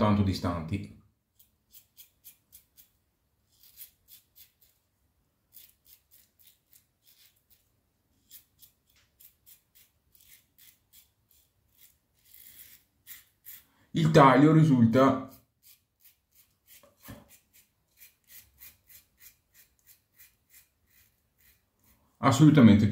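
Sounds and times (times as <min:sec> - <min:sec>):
razor scraping beard stubble: 0:01.3 - 0:04.9, 0:05.5 - 0:13.8, 0:14.9 - 0:22.2.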